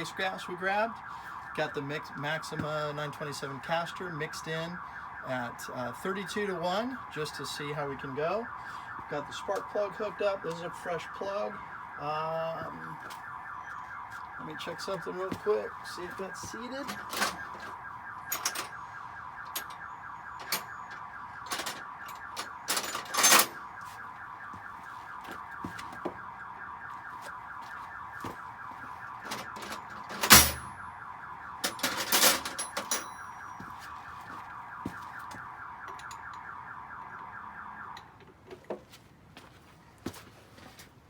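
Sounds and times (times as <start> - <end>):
rapidly pulsing electronic alarm tone: 0.0 - 38.0.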